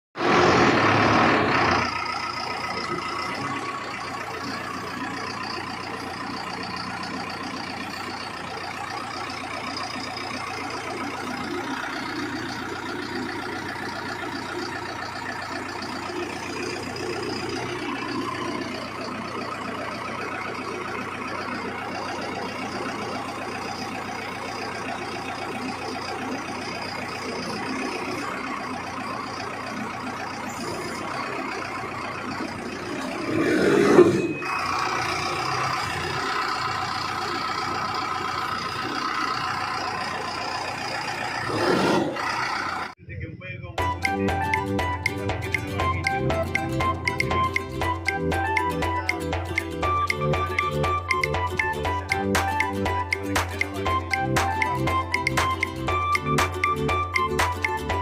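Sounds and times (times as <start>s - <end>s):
diesel engine running: 0.2s - 58.0s.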